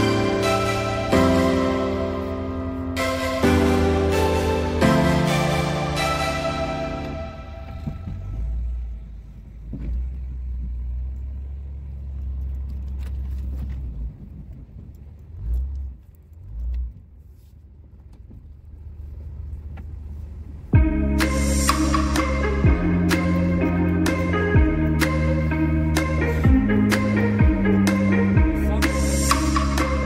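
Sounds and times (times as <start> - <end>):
pickup truck engine rumble: 0.0 - 30.0.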